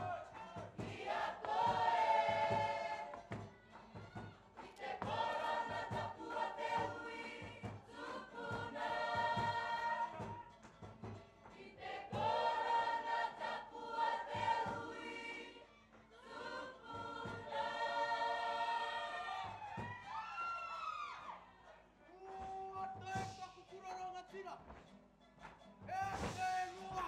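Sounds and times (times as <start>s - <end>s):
group singing together: 0.0s - 22.0s.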